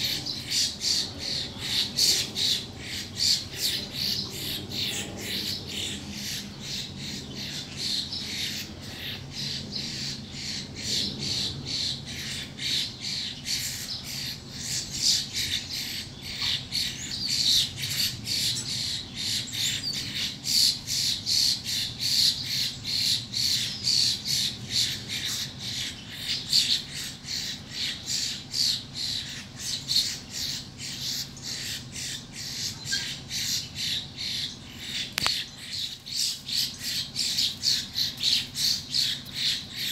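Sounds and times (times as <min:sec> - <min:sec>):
birds squawking: 0:00.0 - 0:39.9.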